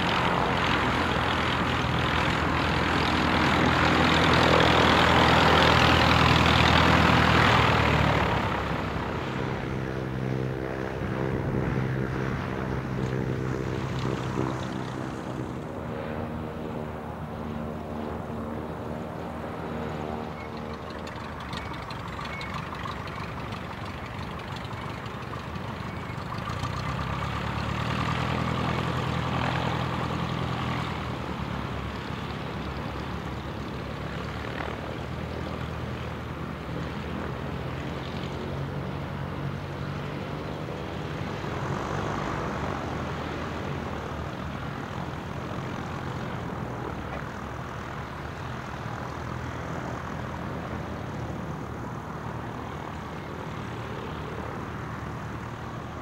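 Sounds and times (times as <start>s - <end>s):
light aircraft engine idling: 0.0s - 56.0s.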